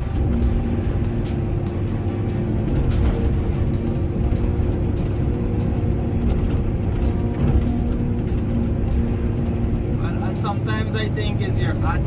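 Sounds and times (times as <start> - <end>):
excavator diesel engine humming: 0.0 - 12.0.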